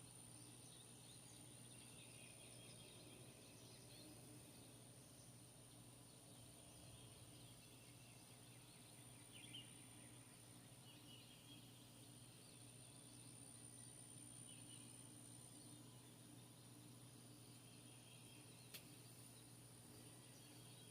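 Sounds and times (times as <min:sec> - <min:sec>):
distant birds chirping: 0:00.0 - 0:20.9
steady low hum: 0:00.0 - 0:20.9.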